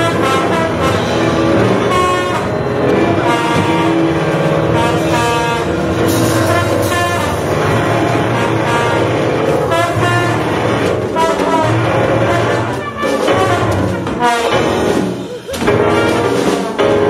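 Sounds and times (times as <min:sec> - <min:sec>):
horns playing short phrases: 0:00.0 - 0:17.0
live band playing: 0:00.0 - 0:17.0.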